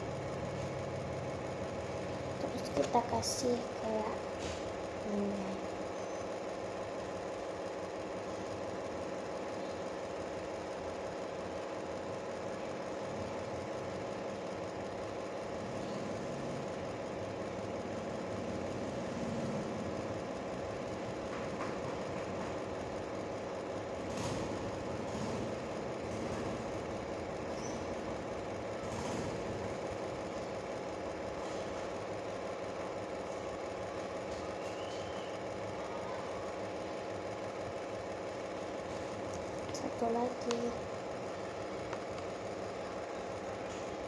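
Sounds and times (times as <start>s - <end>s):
steady mechanical hum: 0.0s - 44.0s.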